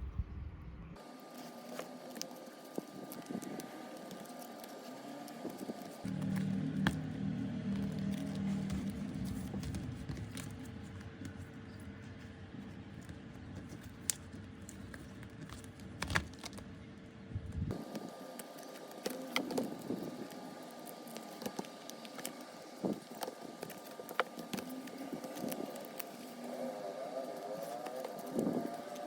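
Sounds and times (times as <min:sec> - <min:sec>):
background hum: 0:00.0 - 0:29.0.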